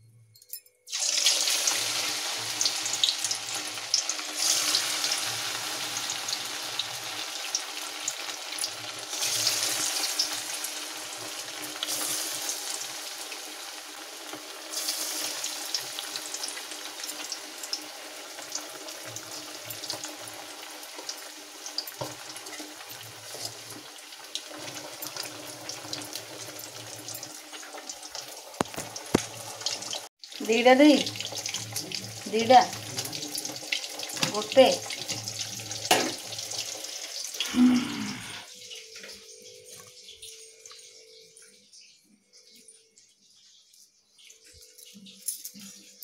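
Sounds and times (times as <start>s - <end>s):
fish deep-frying in oil: 0.9s - 39.8s.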